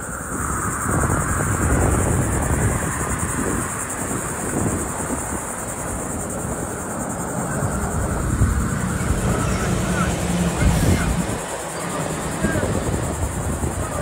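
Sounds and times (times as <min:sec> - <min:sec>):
high-pitched insect drone: 0:00.0 - 0:14.0
wind buffeting microphone: 0:00.0 - 0:14.0.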